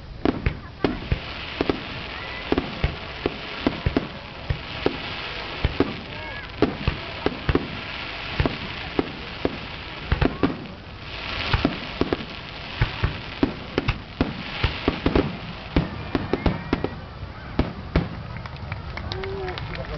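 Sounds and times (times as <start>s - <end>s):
fireworks bursting with bangs: 0.0s - 18.8s
hissing crackle: 0.0s - 19.5s.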